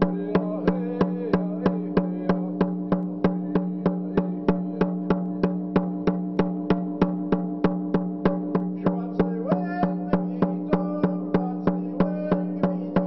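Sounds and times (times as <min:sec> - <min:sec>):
hand drum beating: 0:00.0 - 0:13.0.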